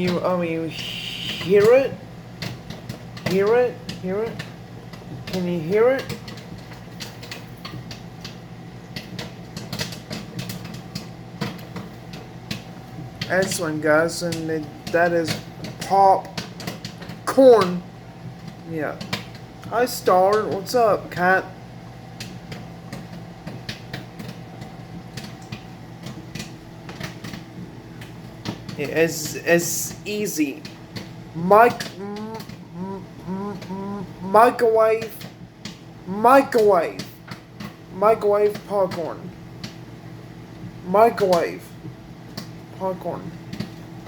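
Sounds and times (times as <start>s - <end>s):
microwave oven hum: 0.0s - 44.0s
popcorn popping: 0.0s - 44.0s.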